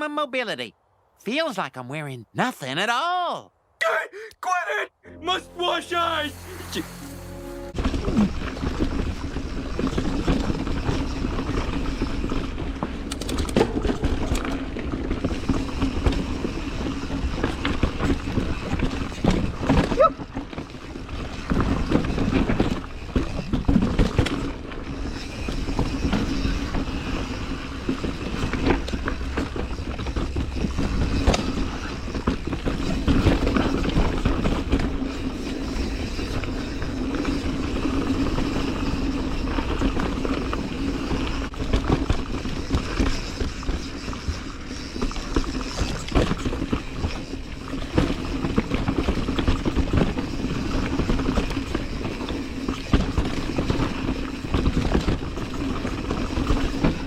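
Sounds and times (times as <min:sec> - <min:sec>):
bike tyre and drivetrain noise: 0:06.8 - 0:57.0.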